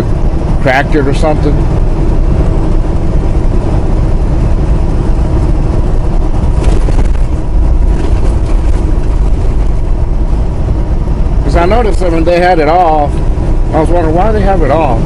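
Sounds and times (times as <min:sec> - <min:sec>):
road noise: 0:00.0 - 0:15.0
truck engine rumbling: 0:00.0 - 0:15.0.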